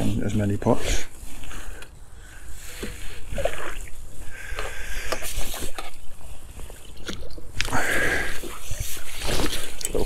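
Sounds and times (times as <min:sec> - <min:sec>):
water splashing and sloshing: 0:01.2 - 0:10.0.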